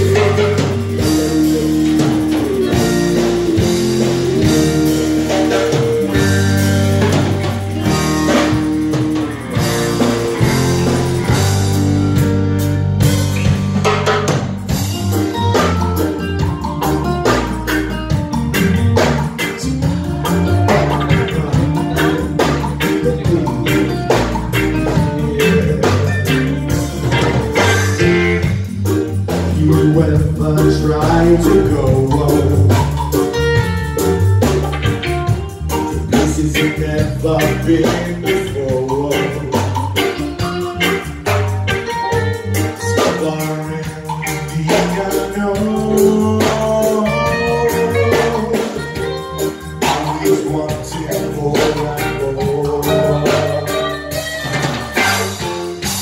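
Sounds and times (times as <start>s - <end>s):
guitar music: 0.0s - 56.0s
live band playing instrumental: 0.0s - 56.0s
percussion hits: 0.0s - 56.0s.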